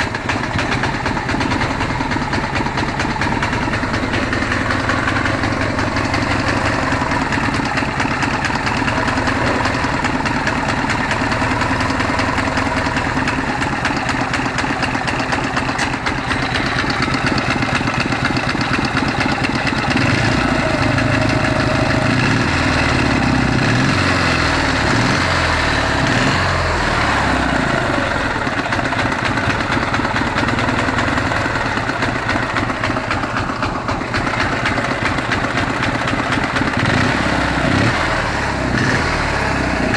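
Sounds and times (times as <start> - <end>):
engine idling unevenly with knock: 0.0 - 39.9.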